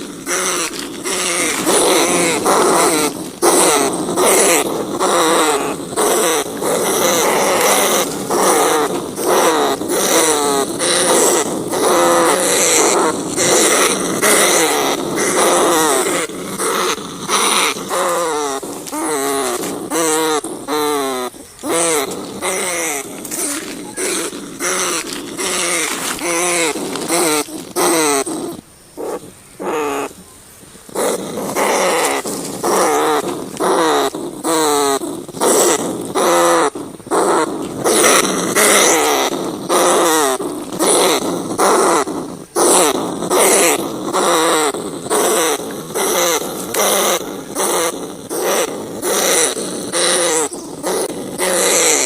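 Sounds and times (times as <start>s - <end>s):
rat squealing: 0.0s - 30.1s, 30.9s - 52.0s.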